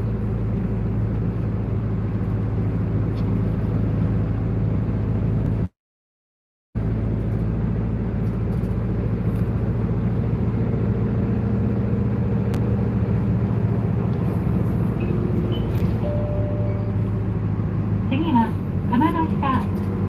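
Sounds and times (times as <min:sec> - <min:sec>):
bus engine and road drone: 0:00.0 - 0:05.8, 0:06.8 - 0:20.0.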